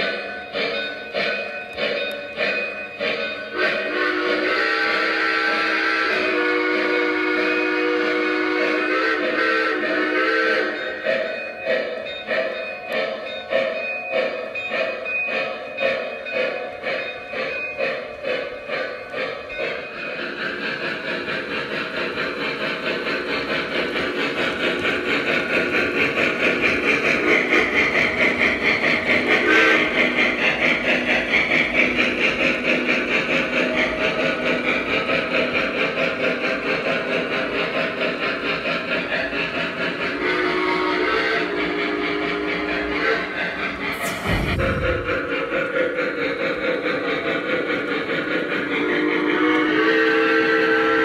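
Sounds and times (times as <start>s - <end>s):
model steam train chuffing: 0.0s - 51.0s.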